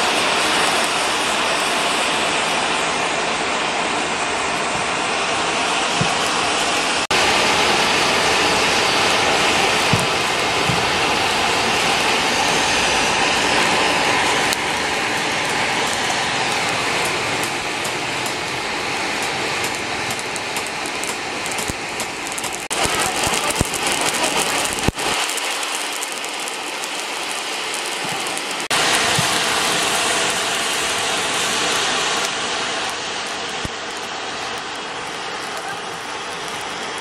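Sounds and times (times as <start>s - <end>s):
air rushing through a forge: 0.0s - 37.0s
coals crackling and popping: 0.0s - 37.0s.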